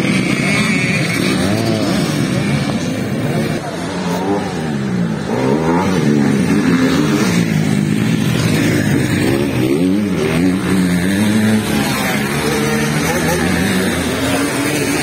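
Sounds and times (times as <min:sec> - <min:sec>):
motocross engines revving: 0:00.0 - 0:15.0.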